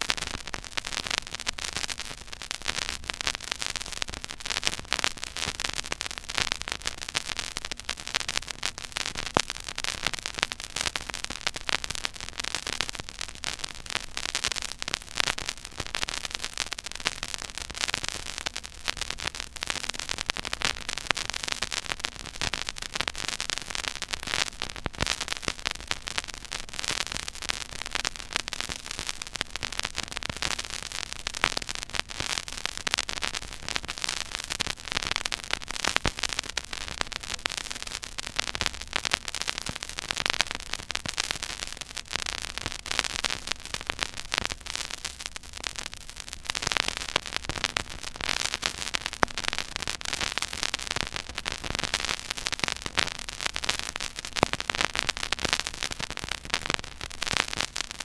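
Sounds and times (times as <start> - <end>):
vinyl surface hiss with crackle: 0.0 - 58.0
record clicks and pops: 8.3 - 58.0.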